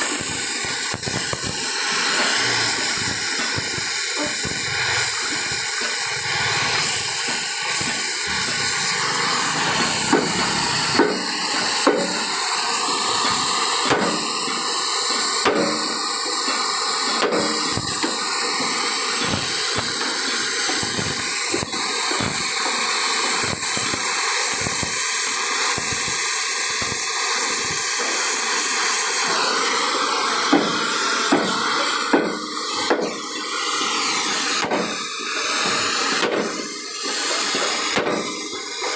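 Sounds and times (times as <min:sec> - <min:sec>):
loud steady hiss: 0:00.0 - 0:38.9.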